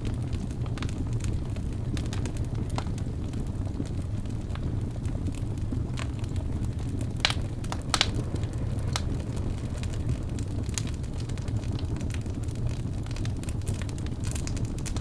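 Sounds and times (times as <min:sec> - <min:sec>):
burning logs crackling and popping: 0:00.0 - 0:15.0
low rumble of flames: 0:00.0 - 0:15.0.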